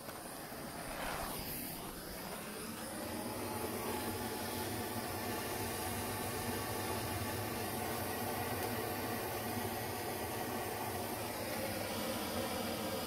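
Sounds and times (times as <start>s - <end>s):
propane torch hissing: 0.0s - 13.0s.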